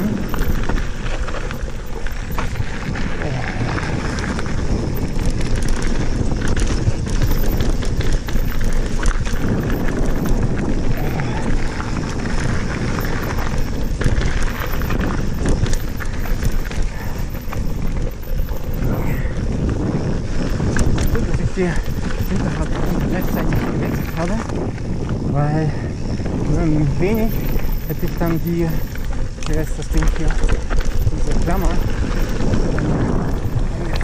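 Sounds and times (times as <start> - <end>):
bike rattling over bumps: 0.0 - 34.0
bike tyres crunching gravel: 0.0 - 34.0
wind rush: 0.0 - 34.0.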